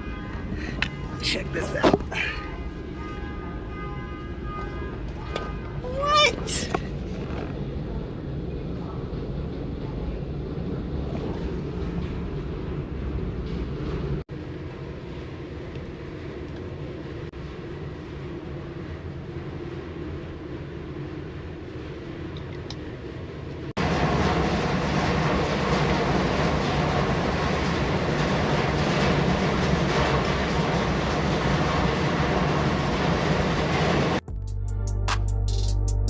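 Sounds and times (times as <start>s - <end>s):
ship engine drone: 0.0s - 36.0s.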